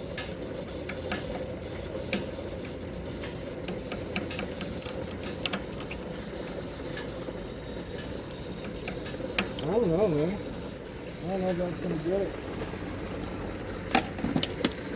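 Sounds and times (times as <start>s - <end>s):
pressure washer engine and pump: 0.0s - 14.9s.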